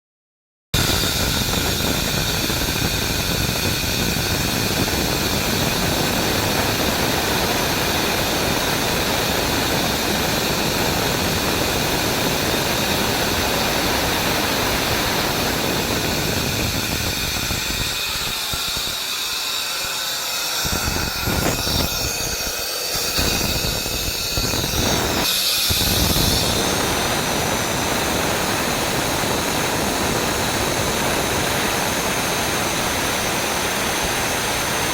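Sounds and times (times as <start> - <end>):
high whining tones: 0.8 - 32.8
rotary screw air compressor running: 0.8 - 34.9.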